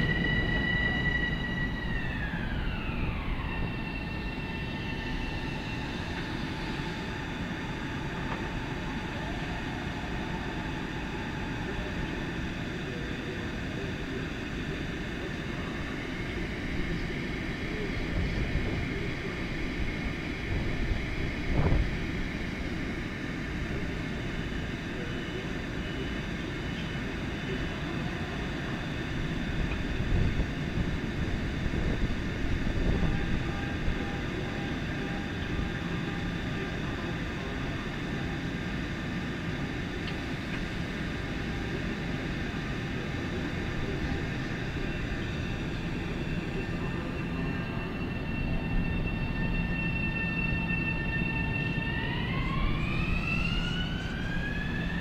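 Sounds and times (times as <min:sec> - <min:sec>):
train equipment hum and hiss: 0:00.0 - 0:55.0.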